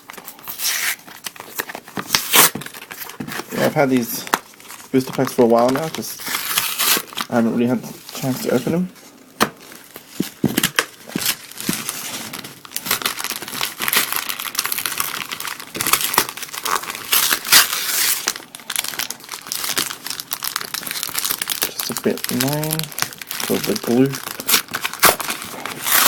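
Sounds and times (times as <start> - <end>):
plastic packaging crinkling: 0.0 - 8.9, 9.5 - 26.0.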